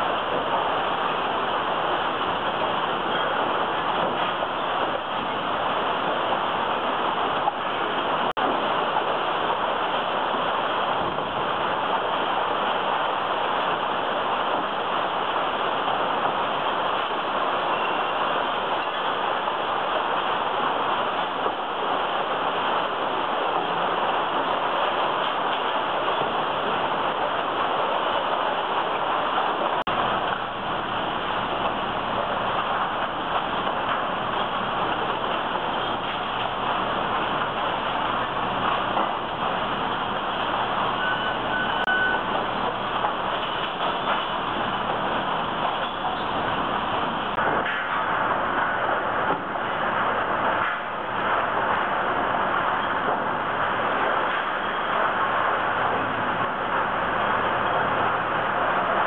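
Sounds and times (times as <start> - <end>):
conveyor belts and sorting machinery: 0.0 - 59.0.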